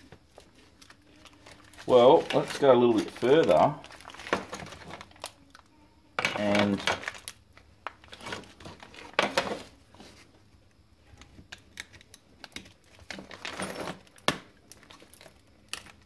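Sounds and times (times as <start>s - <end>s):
foil crinkling and rustling: 0.0s - 5.5s, 6.4s - 10.3s, 11.8s - 16.0s.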